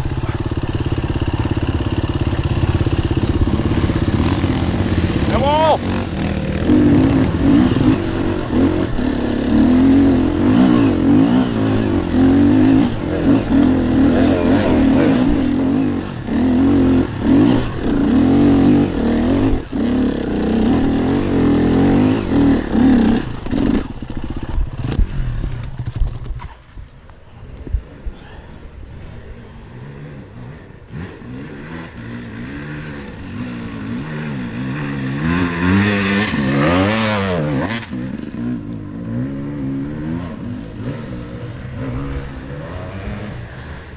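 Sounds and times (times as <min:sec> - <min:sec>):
dirt bike engine revving: 0:00.0 - 0:26.0, 0:28.9 - 0:43.9.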